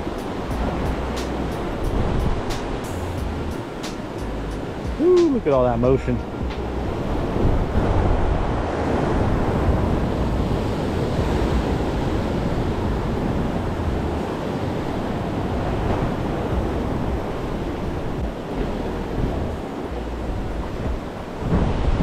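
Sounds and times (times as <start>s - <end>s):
surf washing around rocks: 0.0s - 22.0s
wind rumbling on microphone: 0.0s - 22.0s.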